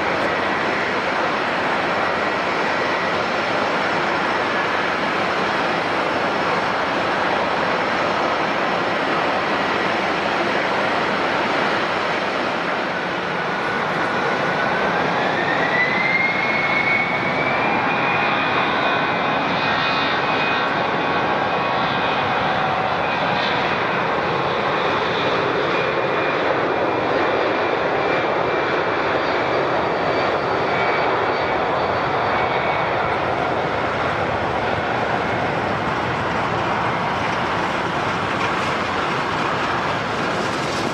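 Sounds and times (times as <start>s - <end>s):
jet engines roaring with whine: 0.0s - 40.9s.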